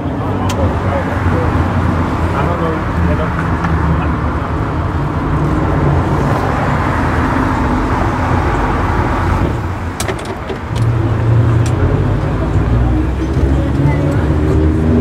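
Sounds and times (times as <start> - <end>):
tram wheels and motor rumble: 0.0 - 15.0.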